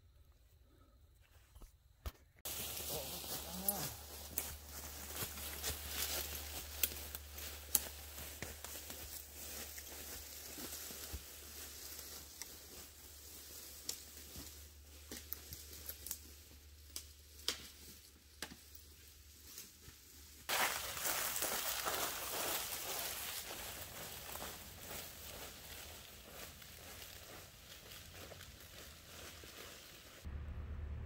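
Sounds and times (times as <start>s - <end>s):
footsteps through dry leaves: 2.4s - 18.0s, 18.9s - 30.3s
dry leaves crackling and rustling: 2.5s - 30.3s.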